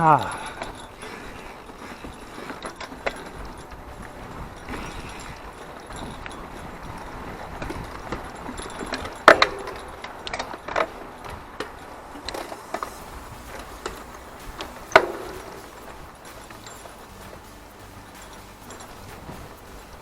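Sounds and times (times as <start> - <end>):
bike rattling over rough trail: 0.0 - 20.0
metallic chain clanks: 0.0 - 20.0
tyres on dirt: 0.0 - 20.0.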